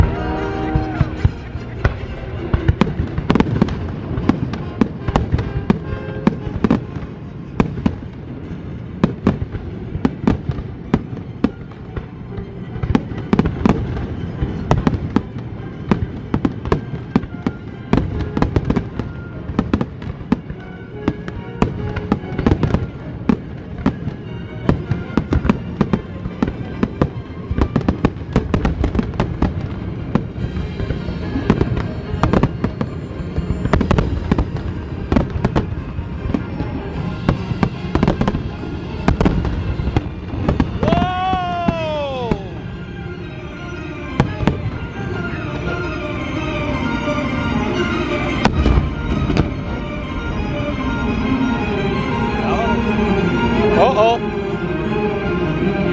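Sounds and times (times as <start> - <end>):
fireworks bangs and crackles: 0.0 - 42.8, 43.8 - 51.6
music playing: 0.0 - 55.9.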